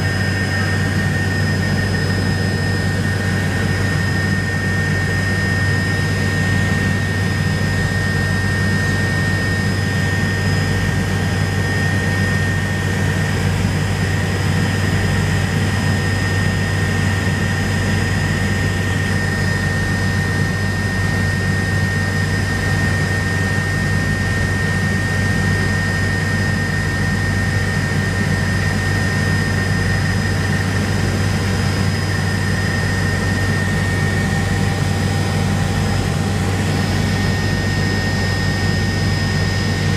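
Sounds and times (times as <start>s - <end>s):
helicopter rotor and engine hum: 0.0s - 39.9s
high turbine whine: 0.0s - 39.9s.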